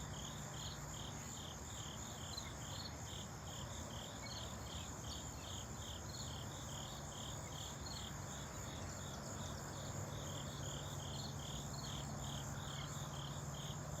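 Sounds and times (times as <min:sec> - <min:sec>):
crickets chirping: 0:00.0 - 0:14.0
high insect trill: 0:00.0 - 0:14.0.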